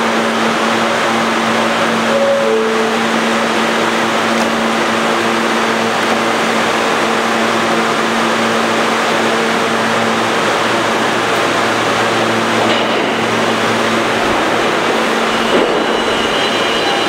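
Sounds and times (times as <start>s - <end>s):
subway car ventilation hum: 0.0s - 17.0s.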